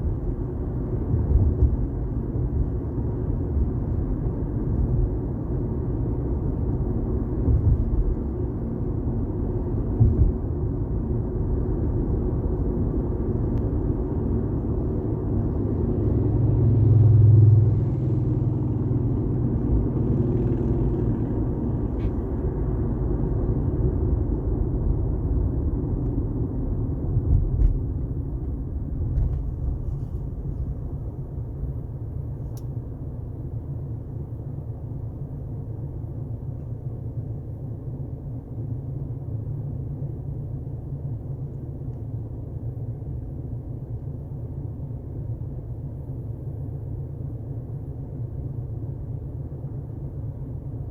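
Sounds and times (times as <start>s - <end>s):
car driving at highway speed: 0.0s - 50.9s.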